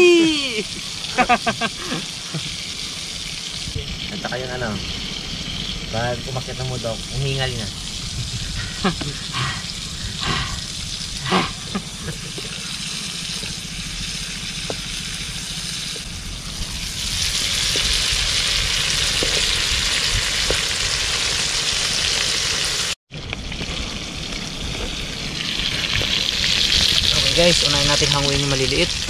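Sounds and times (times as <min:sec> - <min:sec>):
prawns sizzling in hot oil: 0:00.0 - 0:29.0.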